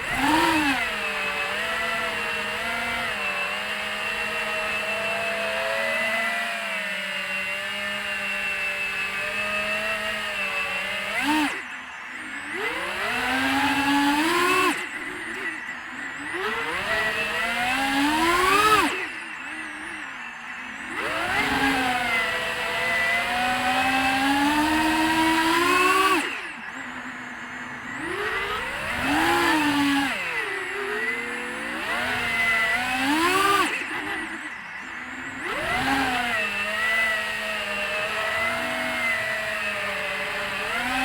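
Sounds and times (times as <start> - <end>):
drone motors and propellers whining: 0.0 - 41.0.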